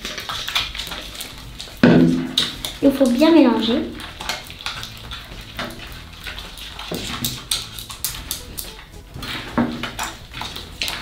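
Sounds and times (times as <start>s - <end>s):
slime squelching: 0.0s - 11.0s.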